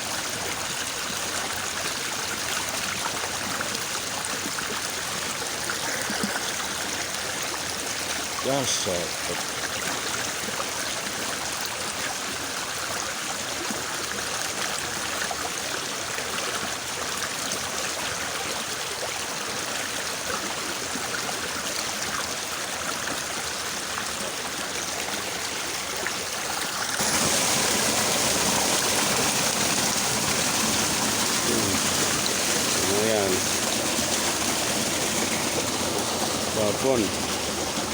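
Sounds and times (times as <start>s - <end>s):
small river babbling: 0.0s - 37.9s.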